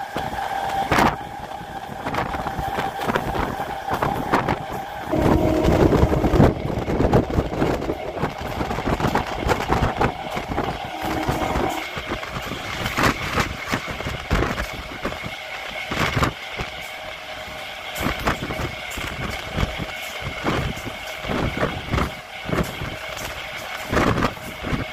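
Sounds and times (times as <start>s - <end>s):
train running at speed: 0.0s - 24.9s
wheels clicking on rails: 0.0s - 24.9s.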